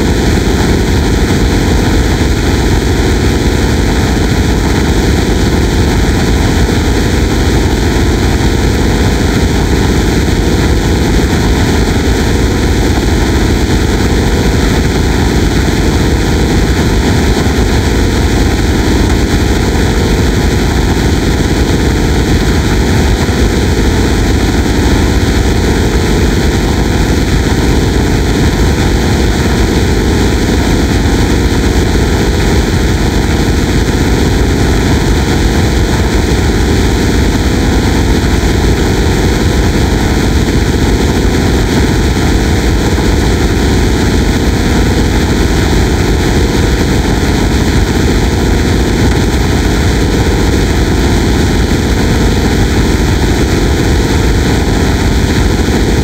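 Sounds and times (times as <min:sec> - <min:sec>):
fast-pulsing low buzz: 0:00.0 - 0:56.0.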